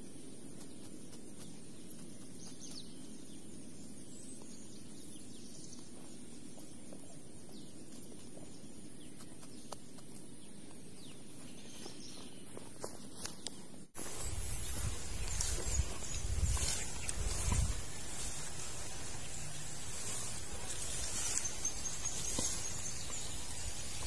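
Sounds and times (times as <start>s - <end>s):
steady outdoor hush: 0.0s - 24.0s.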